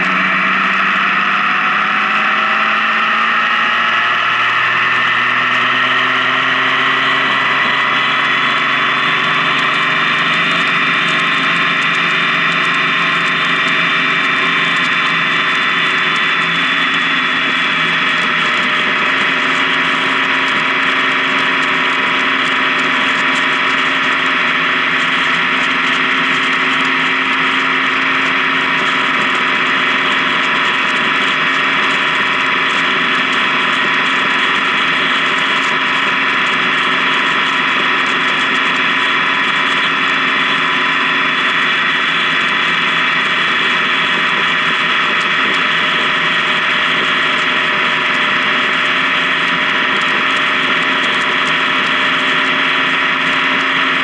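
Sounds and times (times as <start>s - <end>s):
motorcycle engine drone: 0.0s - 54.0s
wind and road noise: 0.0s - 54.0s.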